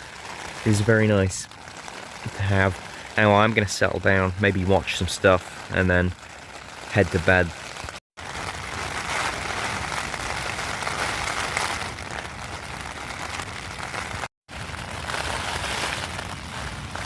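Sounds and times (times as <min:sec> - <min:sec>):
heavy rain drumming on tent: 0:00.0 - 0:17.0.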